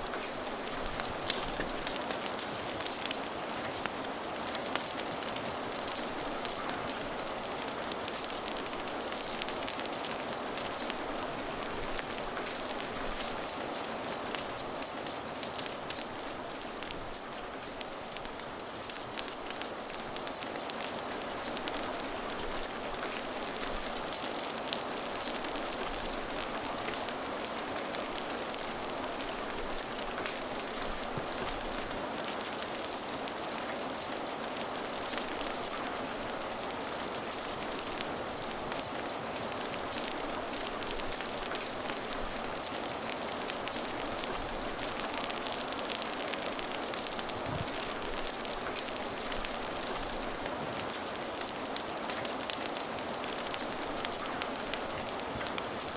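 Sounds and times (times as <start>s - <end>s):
fire crackling: 0.0s - 55.9s
steady rain hiss: 0.0s - 55.9s.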